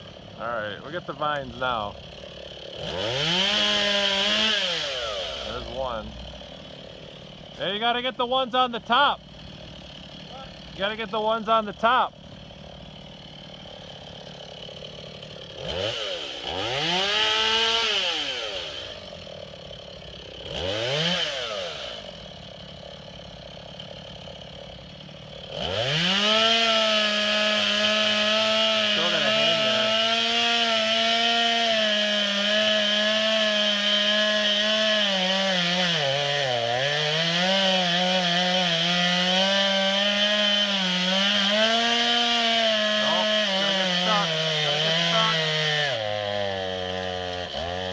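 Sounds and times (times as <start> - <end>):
chainsaw cutting wood: 0.0 - 47.9
chainsaw idling and revving: 0.0 - 47.9.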